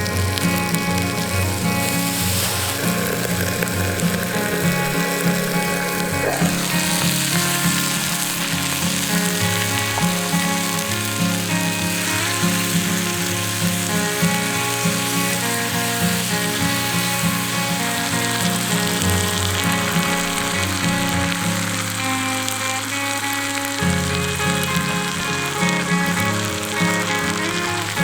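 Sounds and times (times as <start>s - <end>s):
music playing: 0.0s - 28.0s
steady sizzling hiss: 0.0s - 28.0s.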